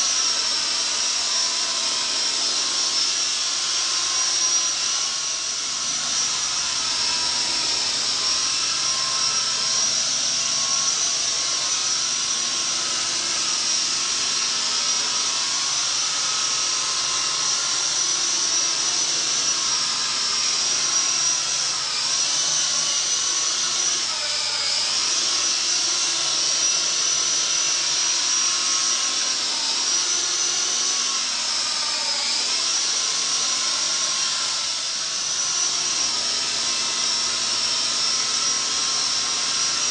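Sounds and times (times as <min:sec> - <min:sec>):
toy helicopter rotor whine: 0:00.0 - 0:39.9.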